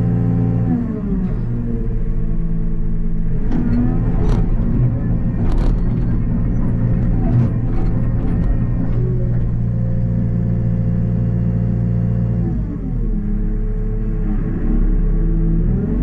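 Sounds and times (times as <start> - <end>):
excavator diesel engine running: 0.0 - 14.1.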